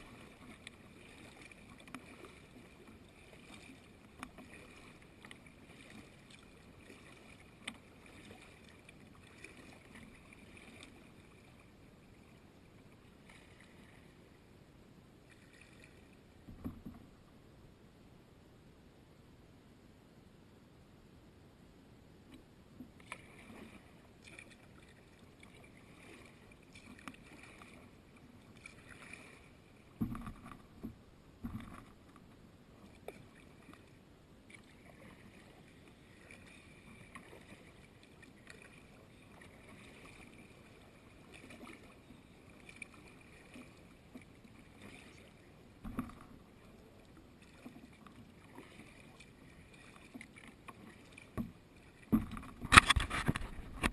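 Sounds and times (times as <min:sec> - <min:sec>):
paddling in water: 0:00.0 - 0:53.9.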